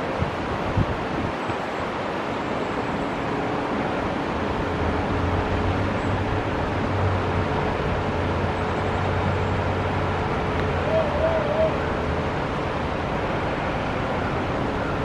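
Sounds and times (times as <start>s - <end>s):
crane engine humming: 2.0s - 15.0s.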